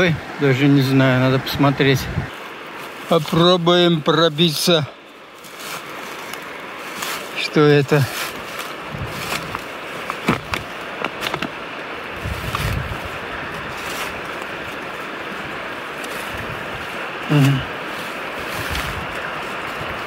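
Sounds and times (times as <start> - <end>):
river rushing over stones: 0.0 - 20.0.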